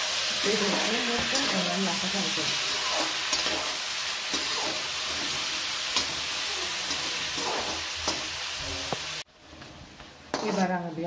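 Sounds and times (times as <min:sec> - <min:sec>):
chicken sizzling in a wok: 0:00.0 - 0:11.0
spatula scraping a pan: 0:00.4 - 0:08.9, 0:10.3 - 0:10.8.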